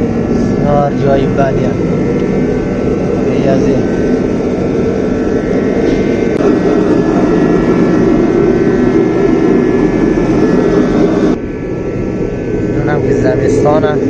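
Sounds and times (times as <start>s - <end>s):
space heater burner roaring: 0.0s - 14.0s
thin steady whine: 0.0s - 14.0s.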